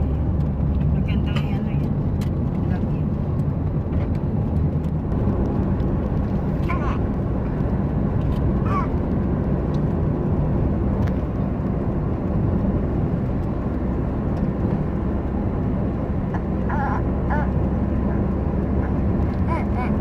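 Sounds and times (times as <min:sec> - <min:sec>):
road and engine noise in car cabin: 0:00.0 - 0:20.0.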